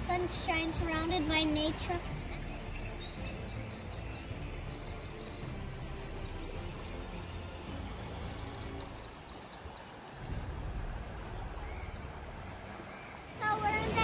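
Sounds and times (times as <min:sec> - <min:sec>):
river current rushing: 0:00.0 - 0:14.0
songbirds chirping: 0:00.0 - 0:14.0.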